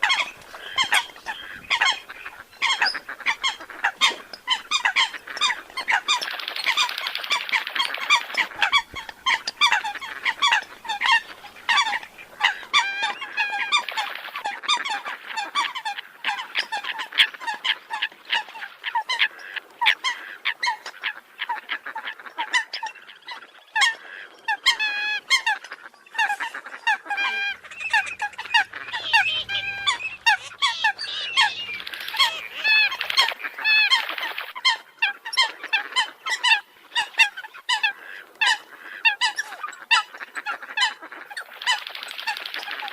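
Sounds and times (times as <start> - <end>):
flock of coots calling: 0.0 - 42.9.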